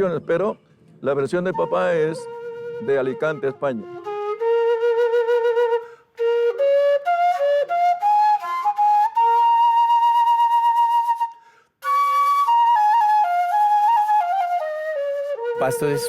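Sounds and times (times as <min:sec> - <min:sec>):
solo flute melody: 0:01.4 - 0:16.0.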